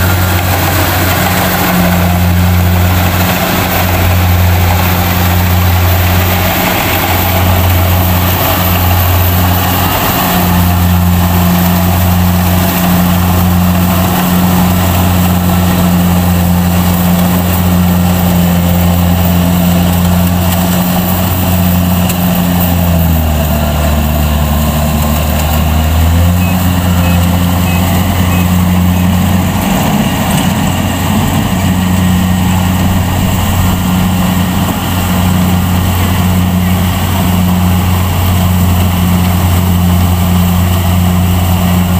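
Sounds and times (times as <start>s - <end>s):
combine harvester engine and threshing: 0.0s - 41.9s.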